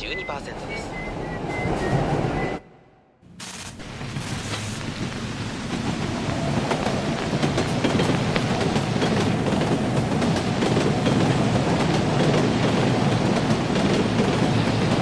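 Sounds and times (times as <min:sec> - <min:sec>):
subway train rumble: 0:00.0 - 0:03.1, 0:03.8 - 0:15.0.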